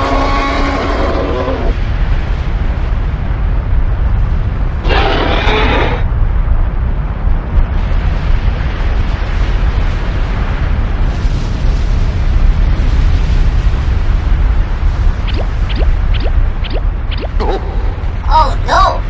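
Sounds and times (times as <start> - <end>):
noisy crackle: 0.0 - 19.0
volcano deep rumble: 0.0 - 19.0.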